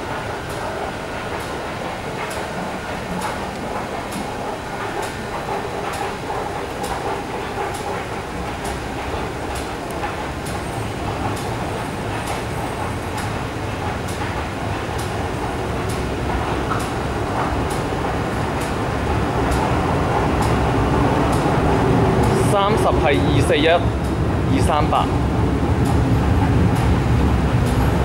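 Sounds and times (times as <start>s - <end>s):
train rumbling in tunnel: 0.0s - 28.0s.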